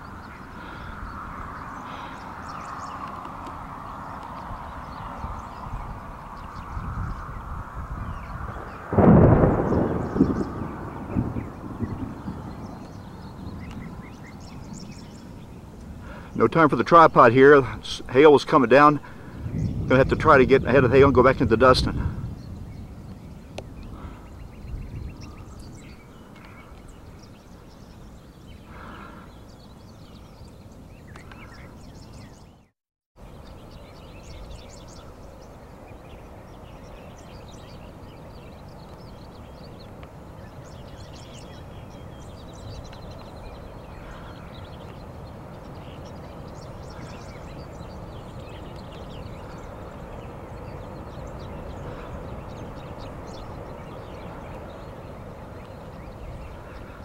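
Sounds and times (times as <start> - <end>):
wind noise on microphone: 0.0 - 32.6, 33.2 - 57.0
birds chirping: 0.0 - 57.0.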